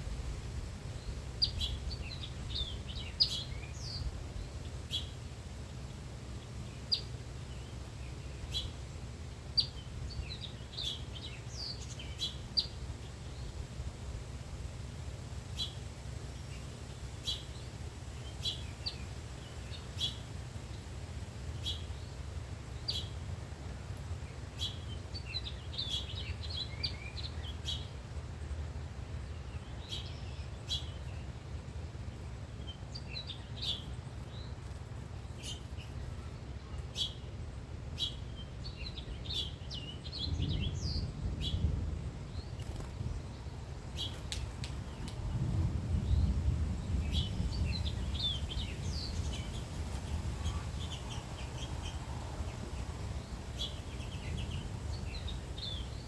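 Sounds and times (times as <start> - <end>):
songbirds chipping and twittering: 0.0 - 56.0.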